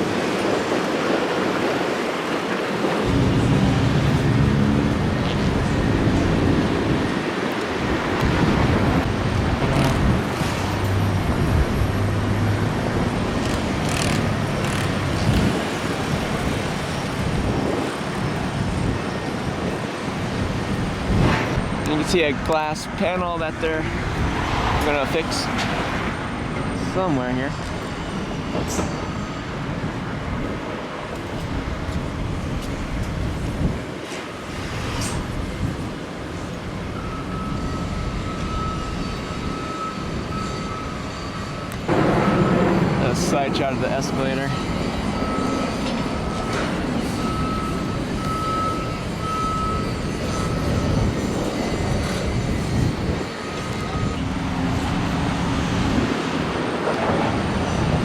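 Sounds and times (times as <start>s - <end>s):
cars passing on a street: 0.0s - 58.0s
jet airliner rumble: 0.0s - 58.0s
jet engine high whine: 0.0s - 58.0s.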